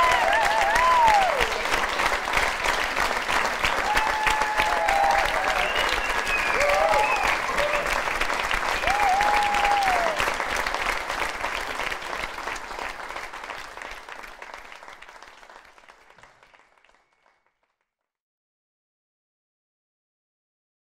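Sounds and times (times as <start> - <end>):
audience applauding: 0.0 - 17.7.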